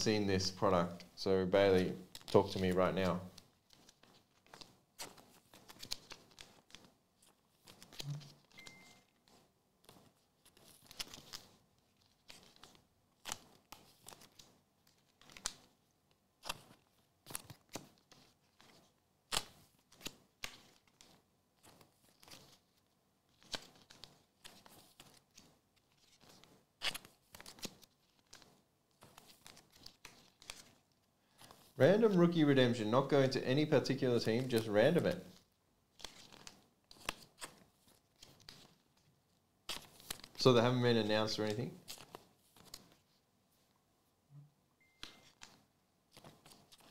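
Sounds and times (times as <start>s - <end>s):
cards rustling: 0.0s - 43.2s, 45.0s - 46.9s.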